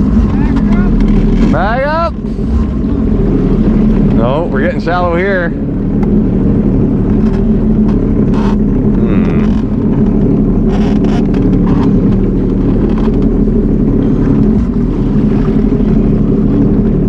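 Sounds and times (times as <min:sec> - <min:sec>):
personal watercraft engine running: 0:00.0 - 0:17.0.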